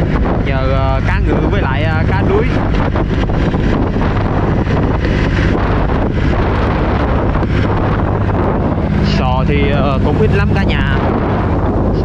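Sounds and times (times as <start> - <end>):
boat engine drone: 0.0 - 12.0
wind buffeting microphone: 0.0 - 12.0.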